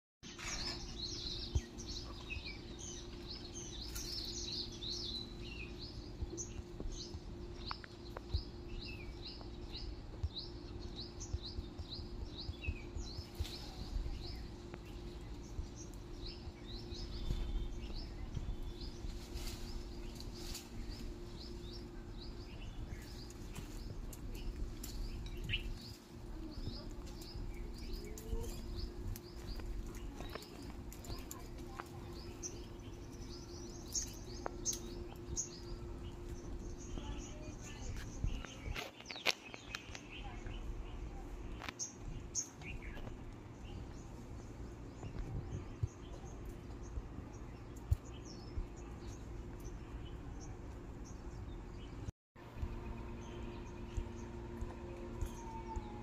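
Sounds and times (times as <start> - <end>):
small bird chirping: 0.2 - 56.0
faint steady hum: 0.3 - 56.0.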